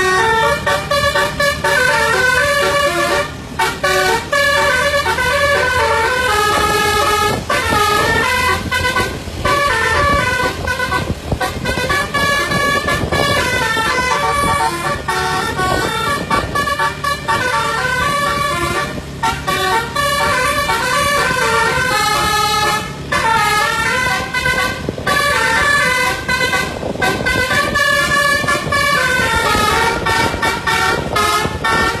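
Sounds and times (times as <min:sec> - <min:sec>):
bus engine running: 0:00.0 - 0:32.0
multi-tone bus horn tune: 0:00.0 - 0:32.0.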